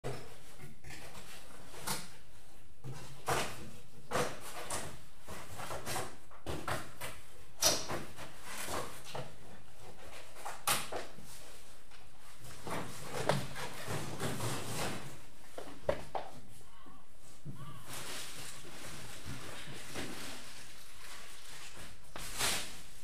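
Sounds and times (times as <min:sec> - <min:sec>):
room noise: 0:00.0 - 0:23.0.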